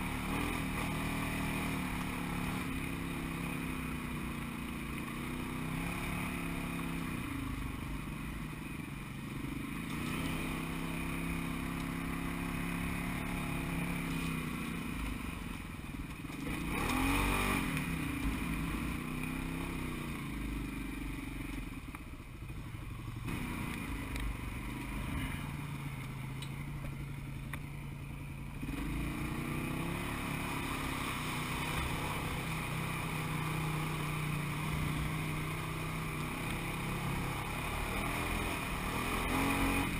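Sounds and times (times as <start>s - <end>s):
off-road vehicle engine revving: 0.0s - 8.5s, 9.5s - 15.5s, 16.2s - 21.7s, 23.1s - 27.0s, 28.6s - 39.9s.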